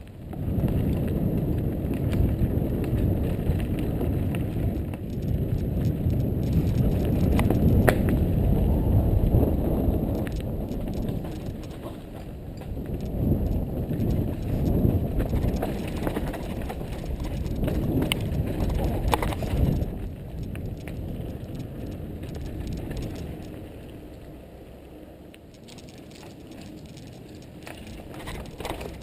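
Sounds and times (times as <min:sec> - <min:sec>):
bike tyres rumbling on dirt: 0:00.0 - 0:29.0
bike frame and chain rattling: 0:00.5 - 0:23.9, 0:25.5 - 0:29.0.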